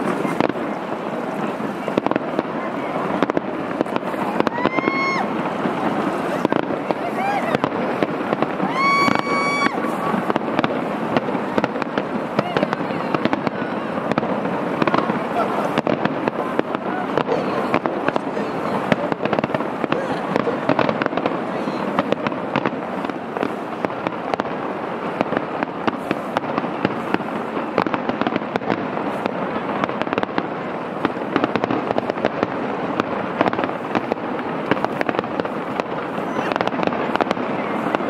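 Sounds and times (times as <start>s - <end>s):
dense crackle: 0.0s - 38.0s
firework shells bursting: 0.0s - 38.0s.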